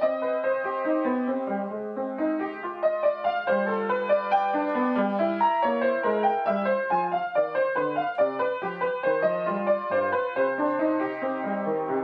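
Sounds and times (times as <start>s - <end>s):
solo piano piece: 0.0s - 12.0s.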